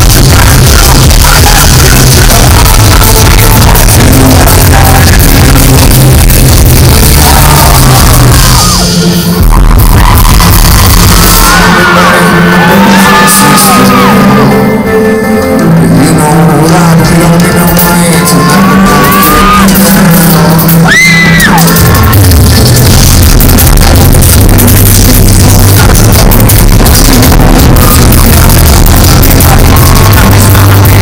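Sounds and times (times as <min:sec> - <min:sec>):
person singing lead vocal: 0:00.0 - 0:21.8, 0:22.8 - 0:31.0
pop-rock band playing: 0:00.0 - 0:31.0.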